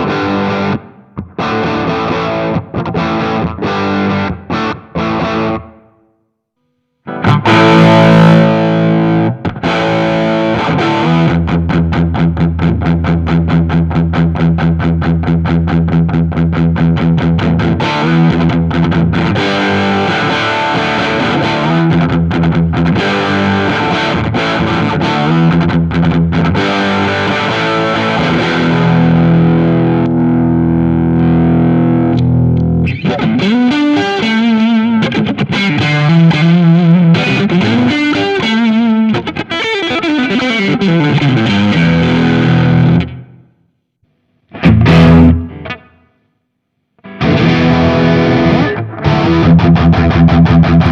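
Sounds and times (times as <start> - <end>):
distorted electric guitar: 0.0 - 6.1, 6.7 - 50.9.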